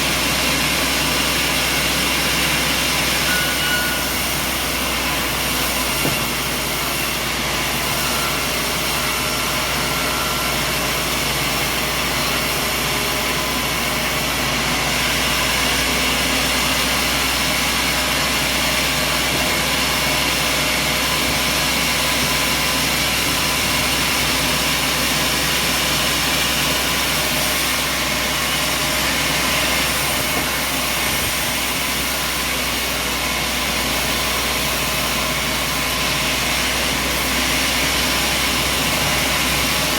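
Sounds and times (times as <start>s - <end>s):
machine engine droning: 0.0s - 39.9s.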